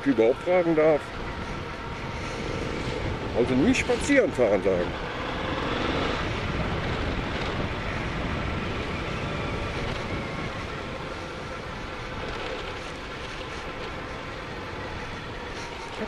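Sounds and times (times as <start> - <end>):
motorcycle engine running: 0.0 - 16.0
wind on microphone: 0.3 - 16.0.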